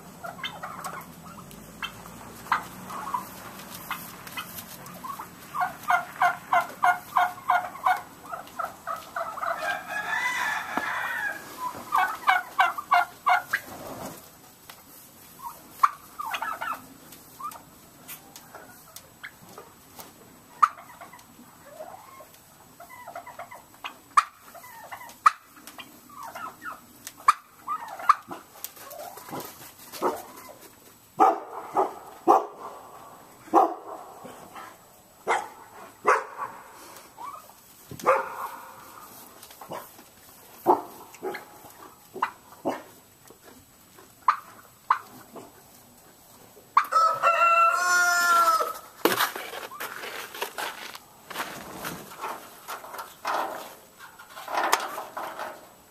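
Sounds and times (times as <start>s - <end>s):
long drawn-out poultry call: 0.0s - 14.4s, 15.2s - 51.4s
poultry clucking: 0.0s - 55.9s.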